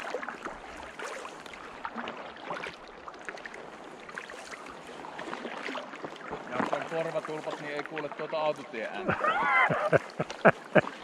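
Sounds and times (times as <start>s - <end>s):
paddle splashing water: 0.0s - 11.0s.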